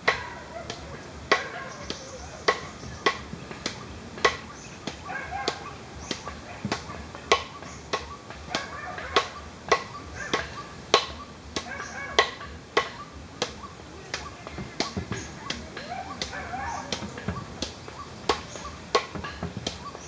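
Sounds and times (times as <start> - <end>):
rhythmic knocking: 0.0 - 20.0.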